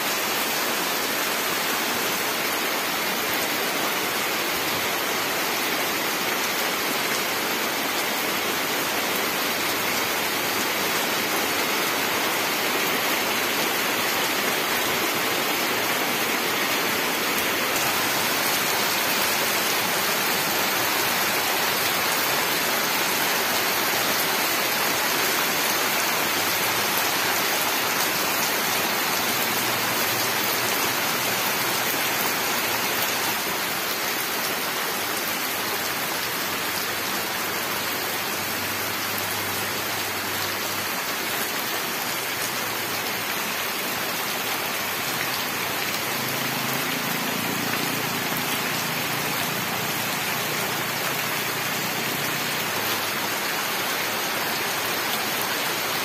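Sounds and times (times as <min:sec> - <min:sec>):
rain on leaves and puddles: 0:00.0 - 0:56.0.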